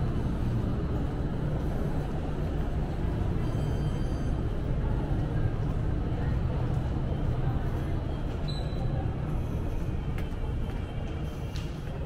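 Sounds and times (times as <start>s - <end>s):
shopping mall low rumble: 0.0s - 12.0s.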